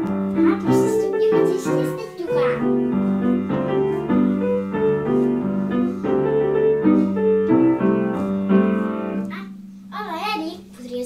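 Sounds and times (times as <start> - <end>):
upright piano melody: 0.0 - 11.0.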